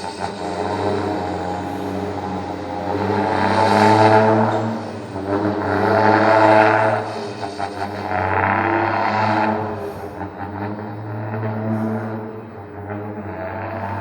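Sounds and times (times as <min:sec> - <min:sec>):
truck engine idling: 0:00.0 - 0:14.0
truck exhaust horn-like blasts: 0:00.0 - 0:14.0.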